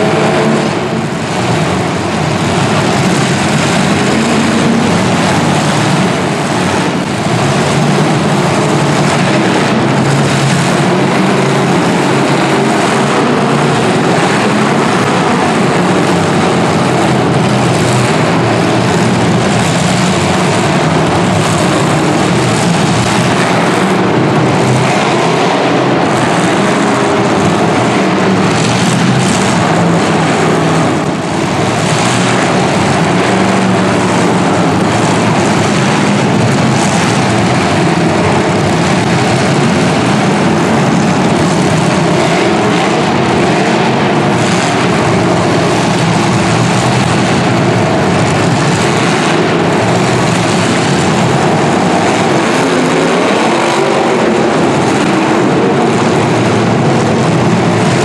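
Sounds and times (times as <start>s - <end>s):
car engines roaring together: 0.0s - 58.0s.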